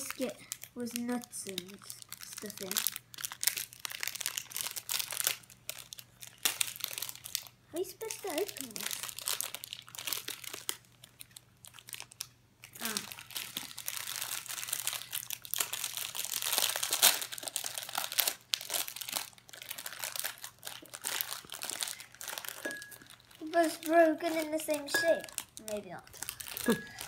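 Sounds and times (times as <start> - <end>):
plastic wrapper crinkling: 0.0 - 27.0.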